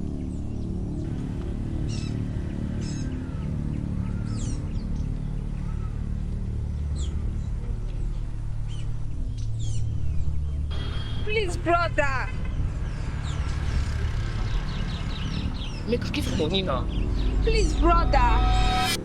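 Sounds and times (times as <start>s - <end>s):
low droning background music: 0.0s - 19.0s.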